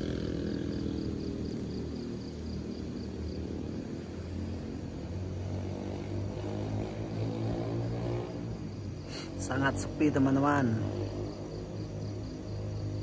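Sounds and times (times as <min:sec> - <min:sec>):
distant traffic drone: 0:00.0 - 0:13.0
insect chirping: 0:00.0 - 0:13.0.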